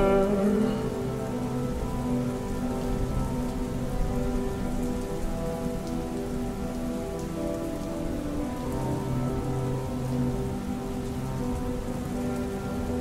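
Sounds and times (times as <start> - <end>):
slow reverb-heavy music chords: 0.0 - 13.0
steady rain: 0.0 - 13.0.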